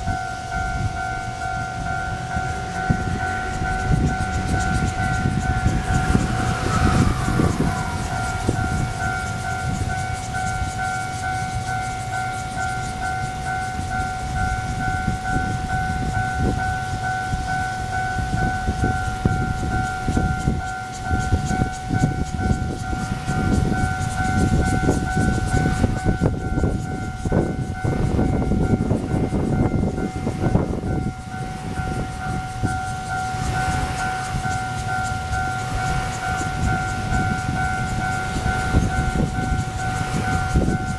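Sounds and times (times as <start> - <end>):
level crossing bell dinging: 0.0 - 40.9
train rumbling past: 0.0 - 40.9.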